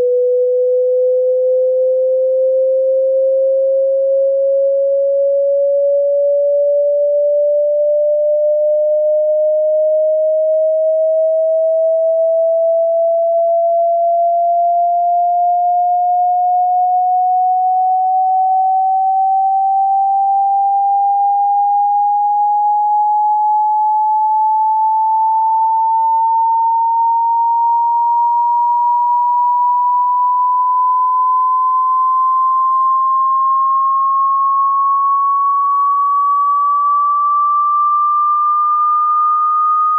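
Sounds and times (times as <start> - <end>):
rising sine tone: 0.0 - 39.9.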